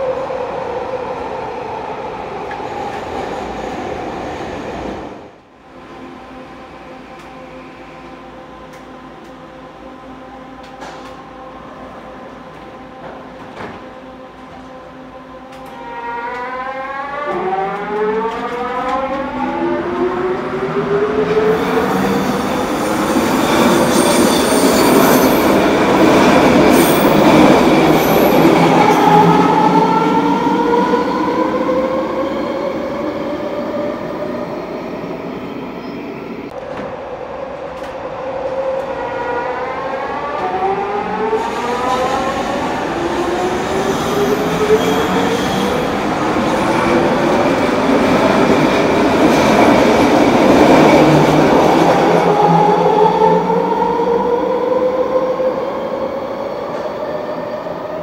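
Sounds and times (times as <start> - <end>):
rail and wheel noise: 0.0 - 58.0.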